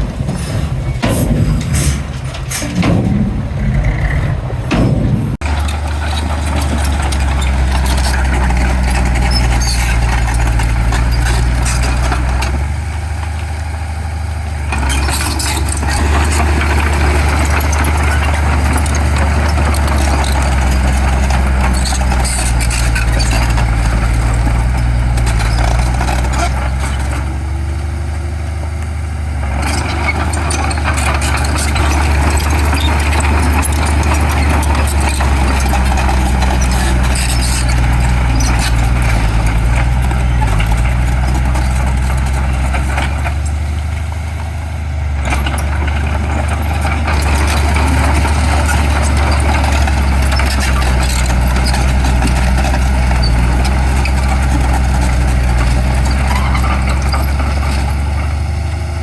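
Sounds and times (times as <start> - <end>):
machinery clattering: 0.0 - 12.8, 14.6 - 27.6, 29.4 - 43.9, 45.2 - 58.1
heavy diesel machinery engine: 0.0 - 59.0.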